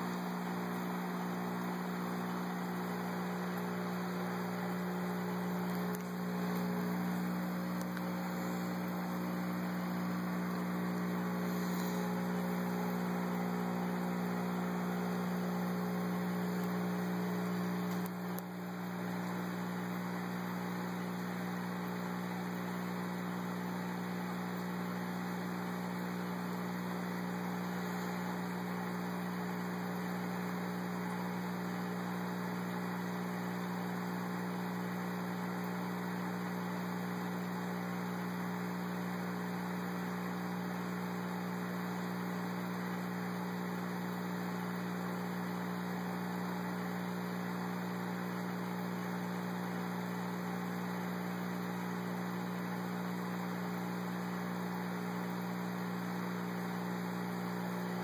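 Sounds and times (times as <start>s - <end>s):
aquarium pump humming: 0.0s - 58.0s.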